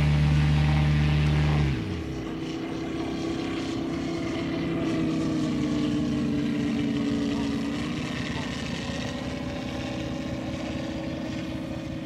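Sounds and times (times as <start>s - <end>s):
propeller drone: 0.0s - 12.0s
radial engine running: 0.0s - 12.0s.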